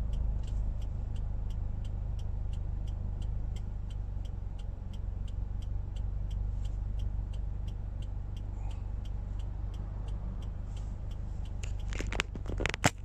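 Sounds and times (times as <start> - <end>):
car engine low rumble: 0.0 - 13.0
light ticking: 0.0 - 13.0.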